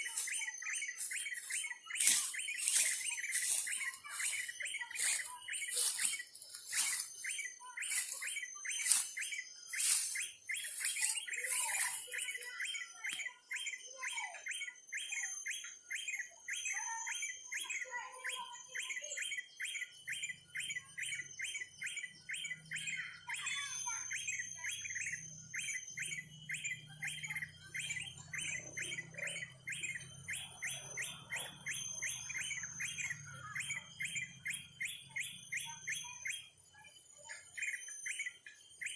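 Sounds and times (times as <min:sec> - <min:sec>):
small songbird chirping: 0:00.0 - 0:38.9.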